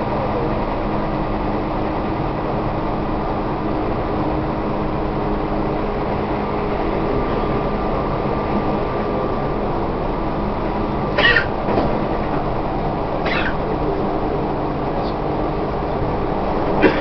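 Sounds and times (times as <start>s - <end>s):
constant hum: 0.0s - 17.0s
train wheels and motors rumbling: 0.0s - 17.0s.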